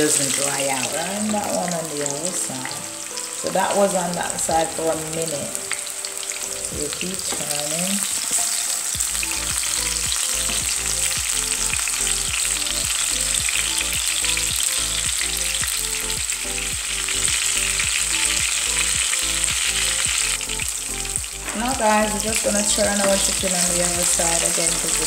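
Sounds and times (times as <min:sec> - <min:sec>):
chicken sizzling in frying pan: 0:00.0 - 0:25.0.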